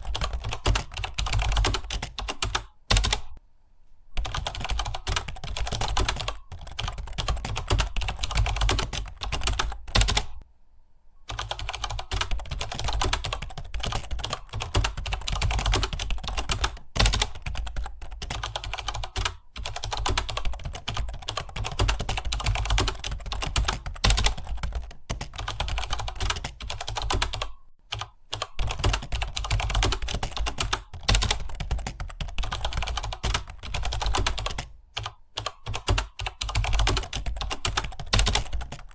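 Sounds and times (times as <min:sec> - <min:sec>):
fast typing on computer keyboard: 0:00.0 - 0:03.4, 0:04.2 - 0:10.4, 0:11.3 - 0:38.9.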